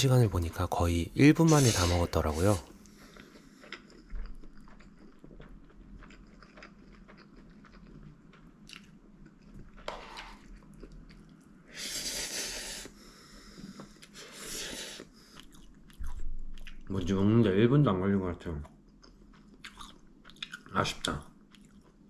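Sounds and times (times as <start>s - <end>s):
person chewing noodles: 1.5s - 17.0s, 18.6s - 22.0s.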